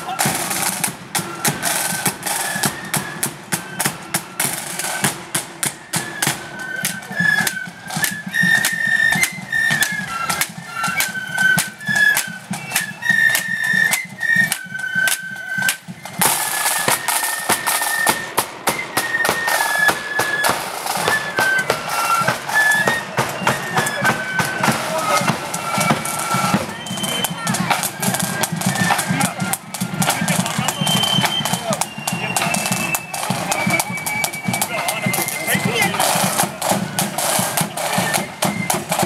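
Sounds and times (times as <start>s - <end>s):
flutes playing melody: 0.0s - 39.0s
snare and bass drums: 0.0s - 39.0s.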